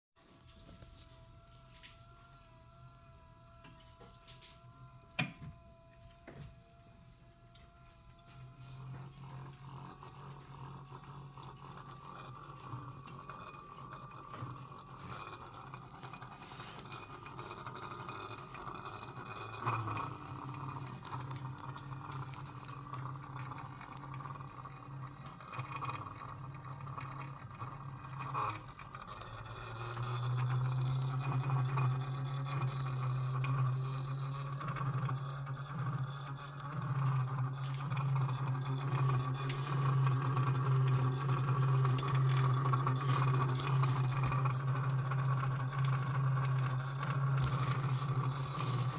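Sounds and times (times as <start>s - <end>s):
steady mechanical hum: 0.2s - 48.9s.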